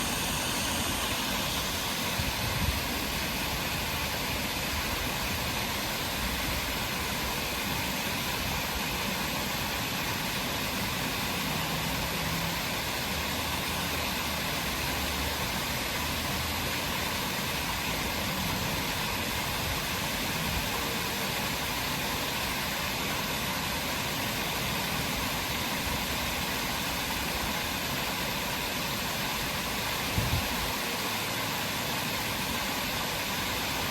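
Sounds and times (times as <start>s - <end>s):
steady rushing noise: 0.0s - 33.9s.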